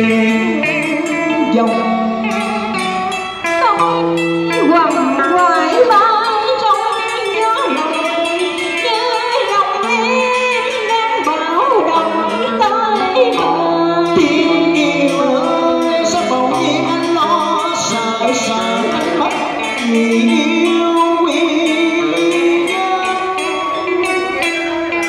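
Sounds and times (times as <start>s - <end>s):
electric guitar: 0.0s - 25.0s
person singing: 0.0s - 25.0s.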